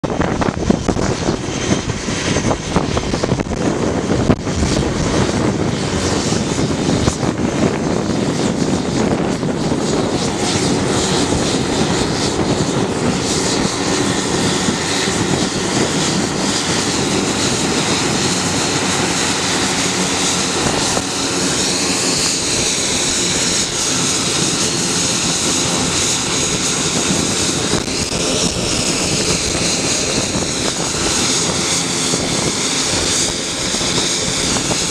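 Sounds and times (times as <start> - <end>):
high turbine whine: 0.0 - 34.9
propeller drone: 0.0 - 34.9.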